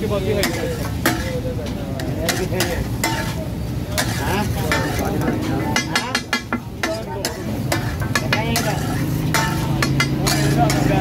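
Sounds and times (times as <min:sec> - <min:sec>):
metal spatula scraping on griddle: 0:00.0 - 0:11.0.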